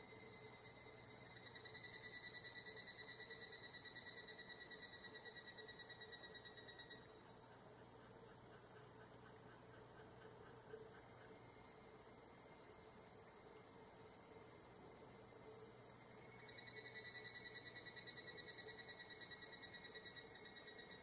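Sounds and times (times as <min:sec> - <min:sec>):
insect chorus: 0:00.0 - 0:21.0.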